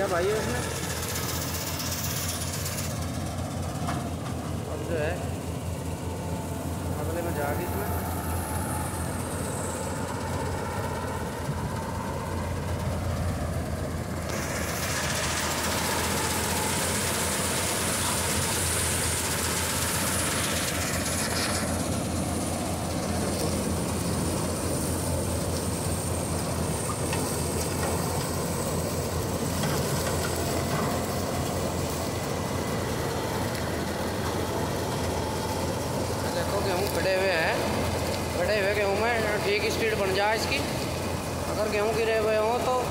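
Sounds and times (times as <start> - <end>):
combine harvester drone and whine: 0.0 - 42.9
tractor engine running: 0.0 - 42.9.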